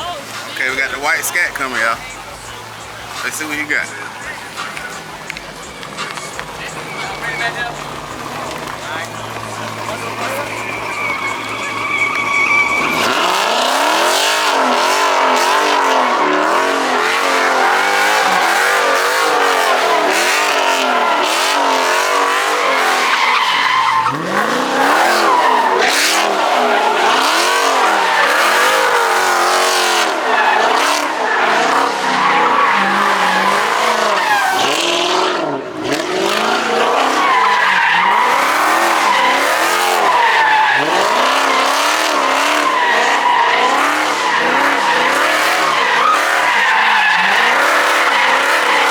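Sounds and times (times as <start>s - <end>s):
car engine revving: 0.0s - 48.9s
tire squeal: 0.0s - 48.9s.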